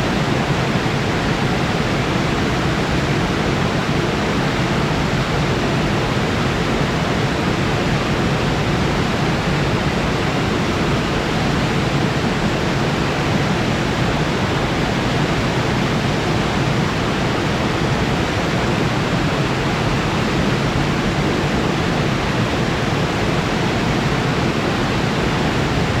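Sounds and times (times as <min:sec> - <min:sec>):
waterfall rushing: 0:00.1 - 0:26.0.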